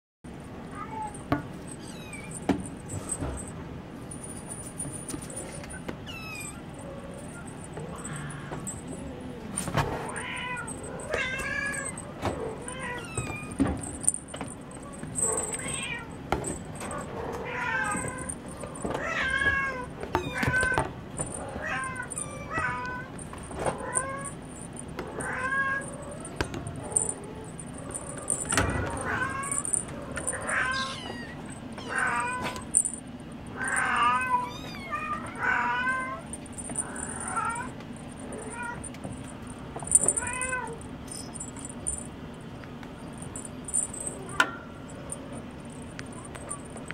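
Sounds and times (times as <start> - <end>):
kittens mewing: 5.5 - 42.1, 43.2 - 46.9.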